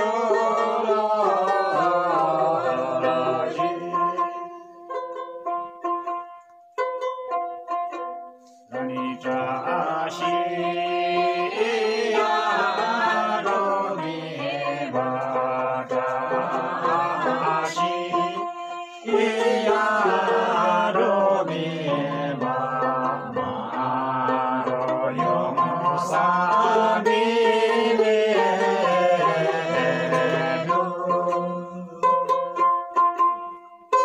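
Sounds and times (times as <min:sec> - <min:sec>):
group singing folk song: 0:00.0 - 0:06.3, 0:07.7 - 0:34.0
plucked lute: 0:00.0 - 0:34.0.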